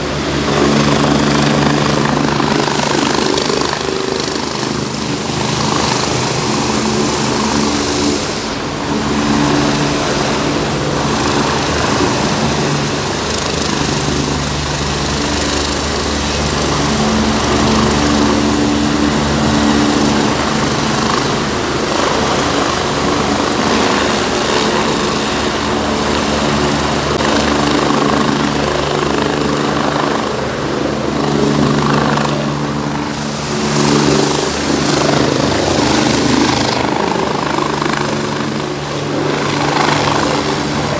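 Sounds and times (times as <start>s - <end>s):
helicopter rotor drone: 0.0s - 40.9s
idling road traffic: 0.0s - 40.9s.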